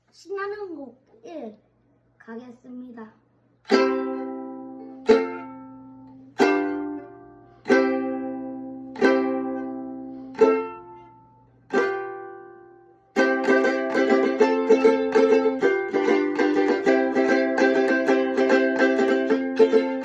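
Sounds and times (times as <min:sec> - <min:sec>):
strummed string instrument chords: 0:03.7 - 0:20.0.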